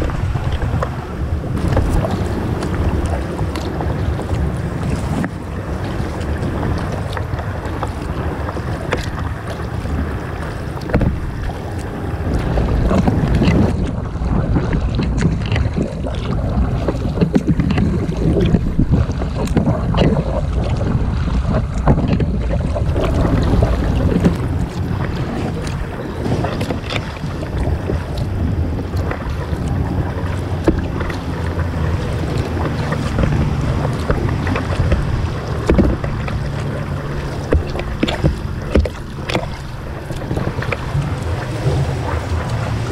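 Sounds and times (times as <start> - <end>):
paddle splashing in water: 0.0 - 42.9
wind rumble on microphone: 0.0 - 42.9.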